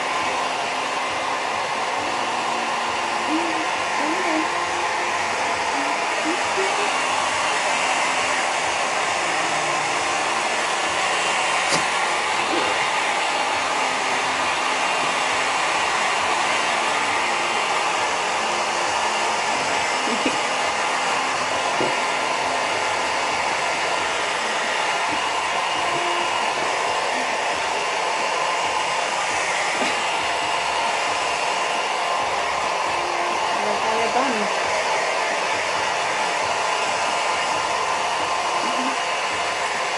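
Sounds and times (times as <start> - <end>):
hairdryer blowing: 0.0 - 39.9.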